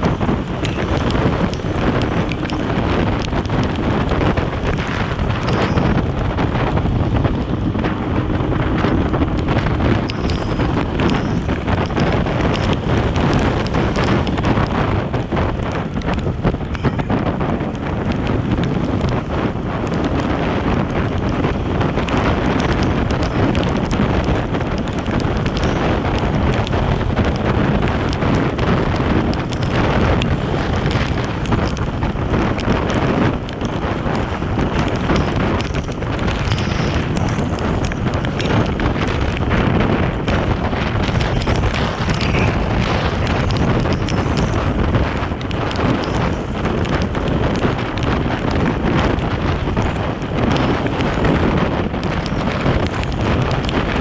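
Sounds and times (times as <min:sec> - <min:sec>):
road noise: 0:00.0 - 0:54.0
wind buffeting microphone: 0:00.0 - 0:54.0.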